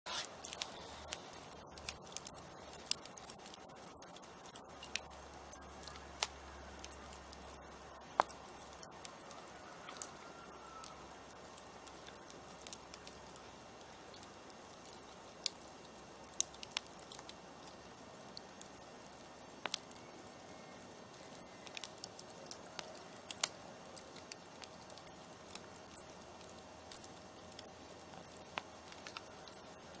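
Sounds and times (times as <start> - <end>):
fire popping: 0.1 - 30.0
wood fire crackling: 0.1 - 30.0.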